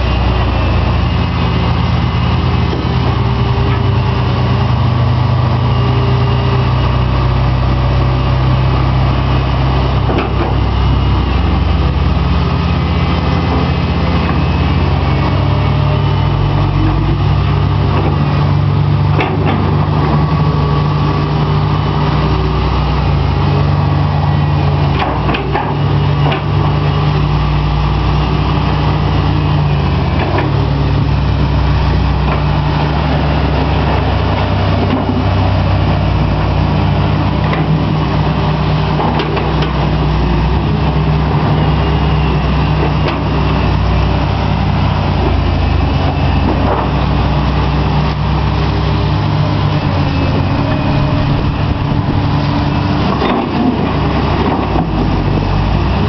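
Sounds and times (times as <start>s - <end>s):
excavator diesel engines humming: 0.0s - 56.0s.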